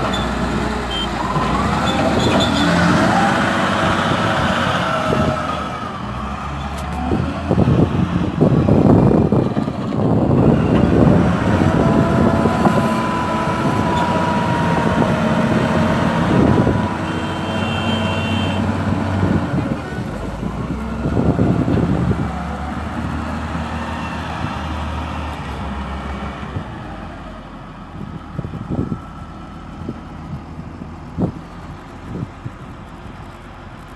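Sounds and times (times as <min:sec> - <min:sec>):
diesel engine surging under load: 0:00.0 - 0:33.9.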